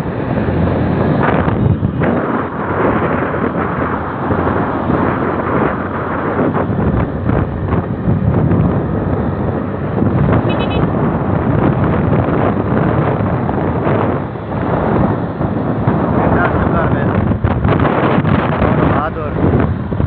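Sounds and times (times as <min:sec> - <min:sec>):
vehicle noise: 0:00.0 - 0:20.0
wind buffeting microphone: 0:00.0 - 0:20.0.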